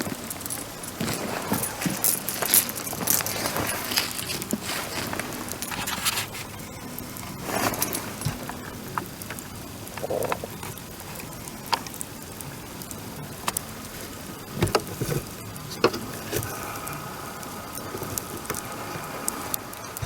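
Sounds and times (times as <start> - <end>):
bonfire crackling and popping: 0.0 - 20.0.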